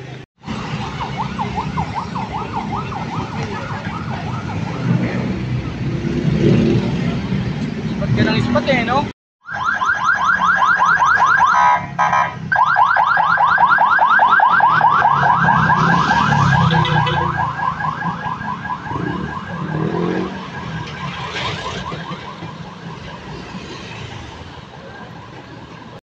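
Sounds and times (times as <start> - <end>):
street traffic rumble: 0.0 - 26.0
ambulance siren yelp: 0.4 - 5.9, 9.4 - 26.0.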